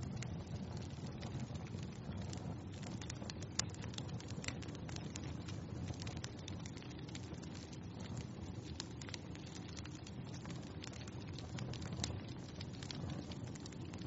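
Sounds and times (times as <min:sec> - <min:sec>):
fire crackling and popping: 0:00.0 - 0:14.0
fire rumbling: 0:00.0 - 0:14.0.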